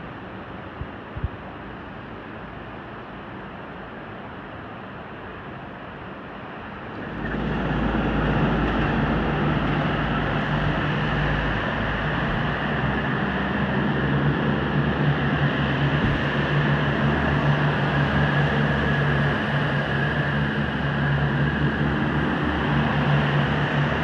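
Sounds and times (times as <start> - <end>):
diesel railcar engine drone: 0.0 - 24.0
wide rumble of passing train: 0.0 - 24.0.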